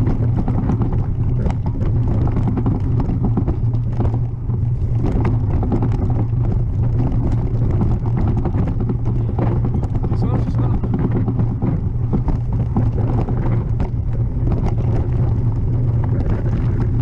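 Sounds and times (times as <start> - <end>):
bike clattering over stones: 0.0 - 17.0
wind and rolling tyres rumble: 0.0 - 17.0.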